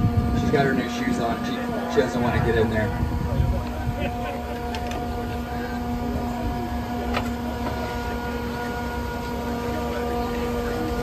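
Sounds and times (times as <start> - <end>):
mixer truck engine rumble: 0.0 - 11.0.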